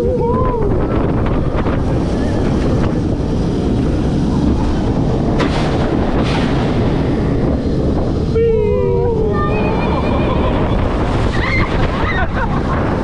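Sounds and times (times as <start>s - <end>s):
coaster clatters: 0.0s - 13.0s
roller coaster rumbling on track: 0.0s - 13.0s
wind buffeting microphone: 0.0s - 13.0s.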